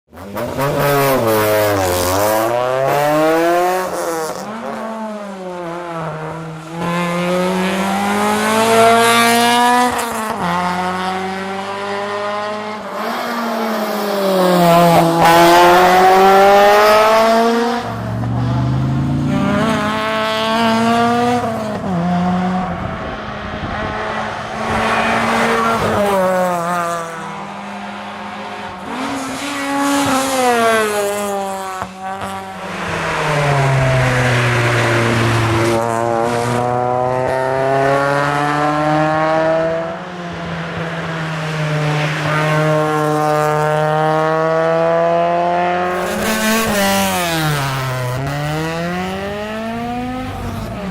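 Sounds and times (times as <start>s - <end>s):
car engine revving: 0.1s - 50.9s.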